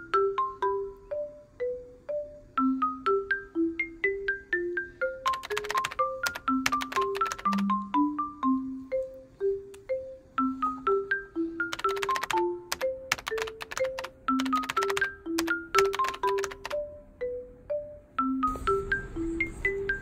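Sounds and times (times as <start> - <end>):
light background music: 0.0 - 20.0.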